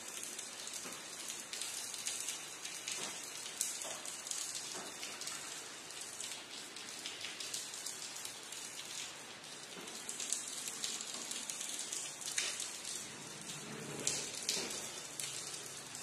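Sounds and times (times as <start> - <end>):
steady rain falling: 0.0 - 16.0
raindrop taps: 0.7 - 8.0, 9.7 - 15.7.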